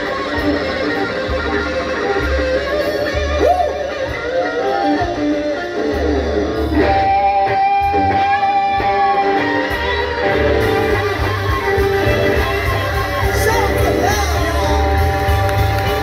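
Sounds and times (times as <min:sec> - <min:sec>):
live blues band playing: 0:00.0 - 0:16.0.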